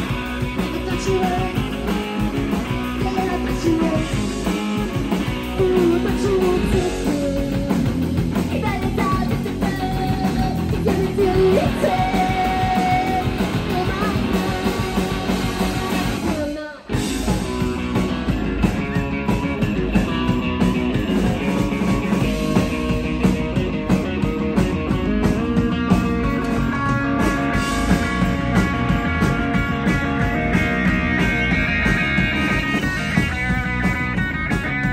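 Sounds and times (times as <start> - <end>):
bass guitar: 0.0 - 34.9
drums: 0.0 - 34.9
electric guitar: 0.0 - 34.9.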